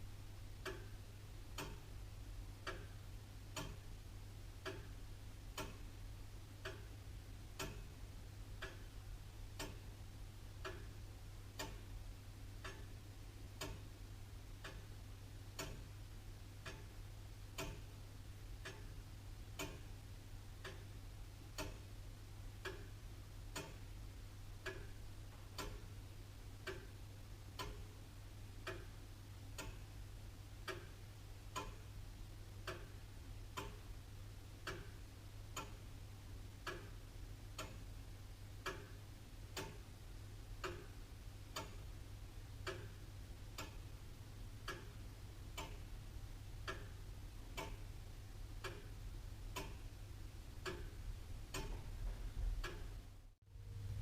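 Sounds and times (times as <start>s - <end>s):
faint low hum: 0.0s - 54.0s
clock ticking: 0.5s - 53.4s.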